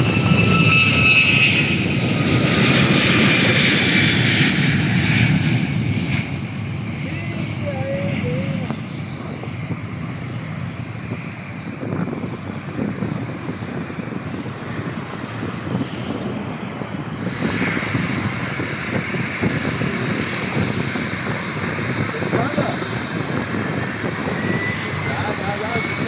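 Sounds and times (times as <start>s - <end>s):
airliner engine roar: 0.0s - 26.0s.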